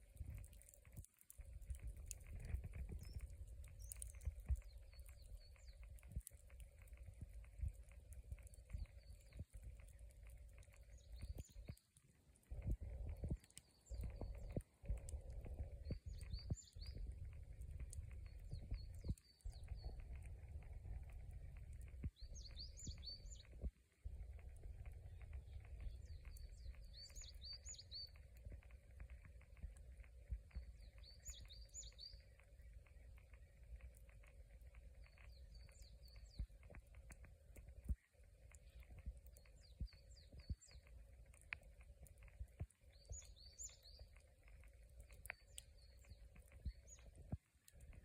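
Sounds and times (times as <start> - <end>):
campfire crackles: 0.0 - 48.0
low uneven rumble: 0.0 - 48.0
small birds chirping: 0.0 - 48.0.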